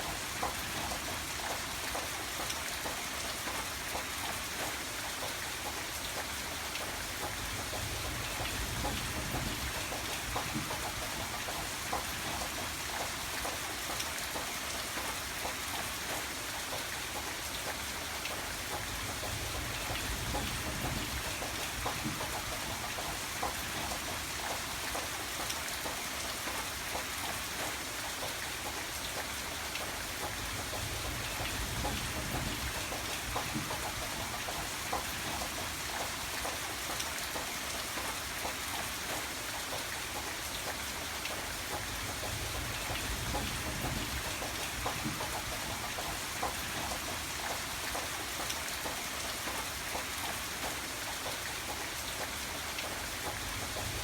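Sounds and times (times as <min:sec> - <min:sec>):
raindrops ticking on a surface: 0:00.0 - 0:54.0
steady rain falling: 0:00.0 - 0:54.0.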